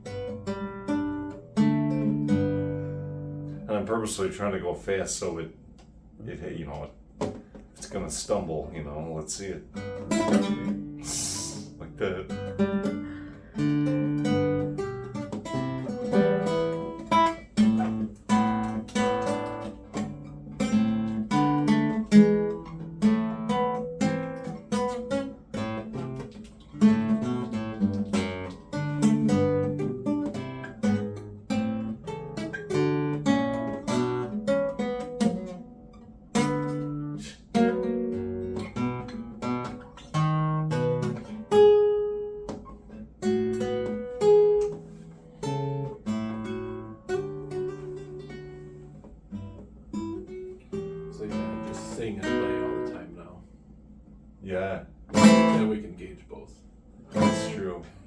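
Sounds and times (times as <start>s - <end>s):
acoustic guitar fast picking: 0.0s - 5.2s, 9.3s - 53.3s, 54.6s - 55.8s, 57.1s - 58.0s.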